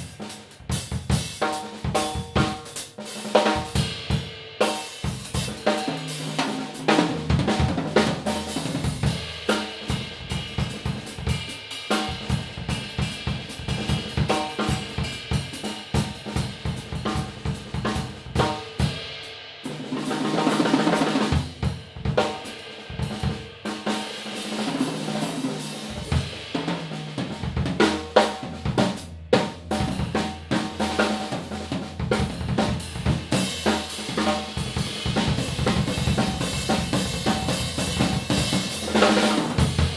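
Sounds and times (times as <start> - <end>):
drum kit groove: 0.0 - 39.9
drum roll: 0.0 - 39.9.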